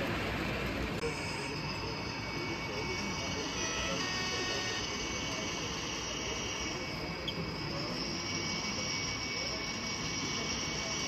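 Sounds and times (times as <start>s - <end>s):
model train running: 0.0s - 11.0s.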